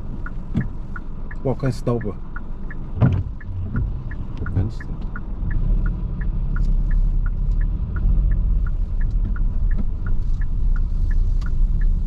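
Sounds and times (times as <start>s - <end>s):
car engine and tyre rumble: 0.0s - 12.0s
turn signal ticking: 0.0s - 12.0s.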